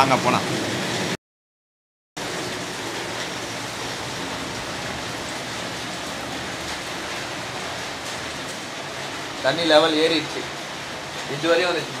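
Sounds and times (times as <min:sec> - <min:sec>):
heavy rain pouring: 0:00.0 - 0:01.2, 0:02.2 - 0:12.0.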